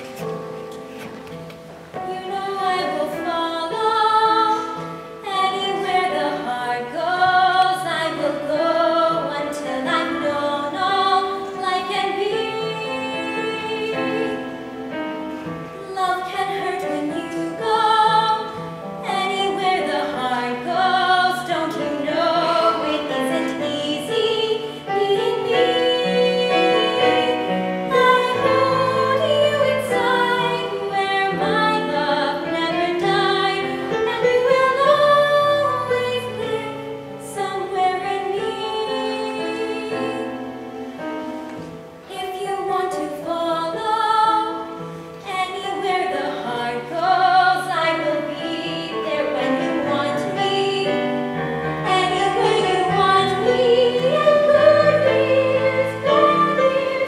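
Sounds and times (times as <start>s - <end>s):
instrumental accompaniment: 0.0s - 57.0s
woman singing ballad: 2.0s - 14.7s, 15.8s - 40.5s, 42.1s - 51.2s.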